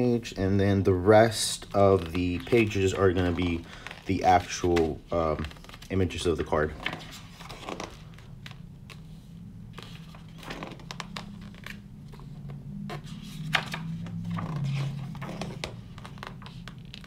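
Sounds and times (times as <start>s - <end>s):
low steady hum: 0.0s - 17.0s
book pages turning: 0.9s - 17.0s.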